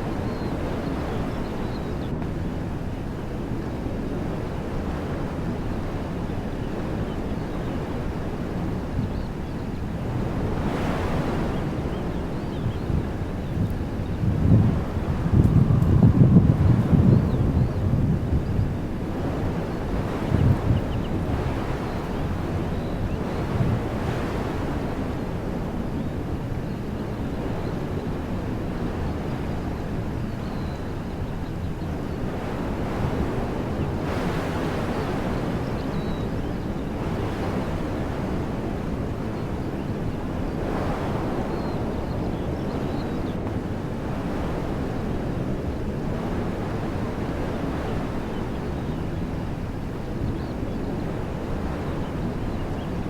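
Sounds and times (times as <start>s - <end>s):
wind rumble on microphone: 0.0s - 53.0s
wind through trees: 0.0s - 53.0s.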